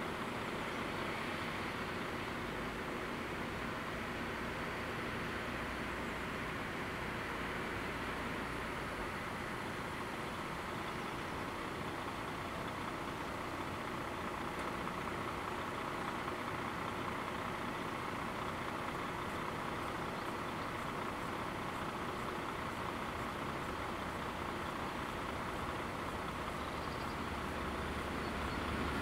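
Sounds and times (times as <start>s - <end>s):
car idling: 0.0s - 29.0s
road vehicles background noise: 0.0s - 29.0s.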